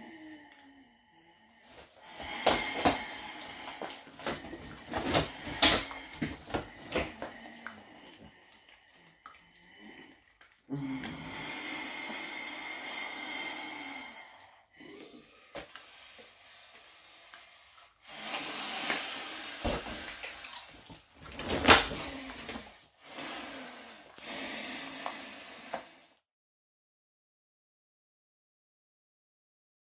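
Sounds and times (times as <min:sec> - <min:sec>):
heavy breathing through gas mask: 0:00.0 - 0:26.2.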